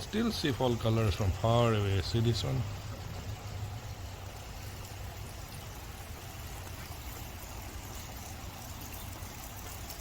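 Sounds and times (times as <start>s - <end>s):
water pouring from roof: 0.0s - 10.0s.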